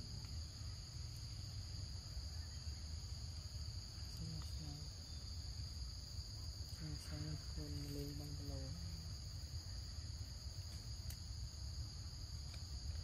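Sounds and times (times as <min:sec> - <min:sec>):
forest insects droning: 0:00.0 - 0:13.0.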